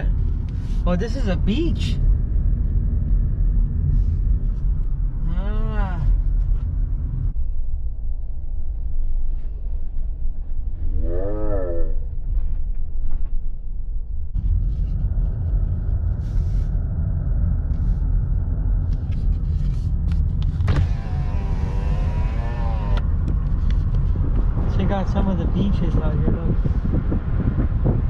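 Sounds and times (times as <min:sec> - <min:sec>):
car engine and road rumble: 0:00.0 - 0:10.9, 0:11.9 - 0:28.0.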